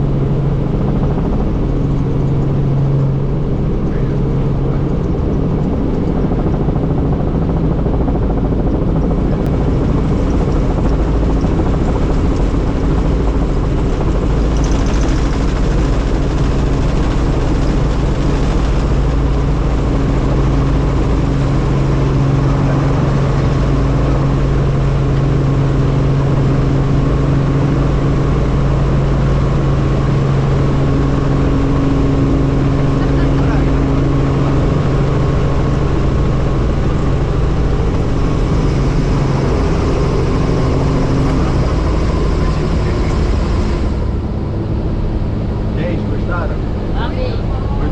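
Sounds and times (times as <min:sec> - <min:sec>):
helicopter droning hum: 0:00.0 - 0:47.9.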